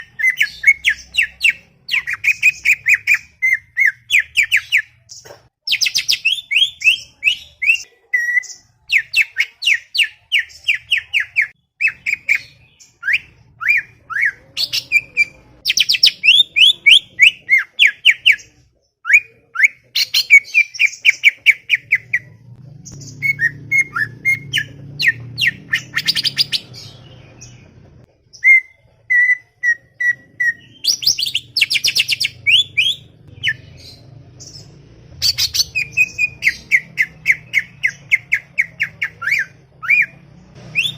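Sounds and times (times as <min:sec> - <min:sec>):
bird singing chattering song: 0:00.0 - 0:40.9.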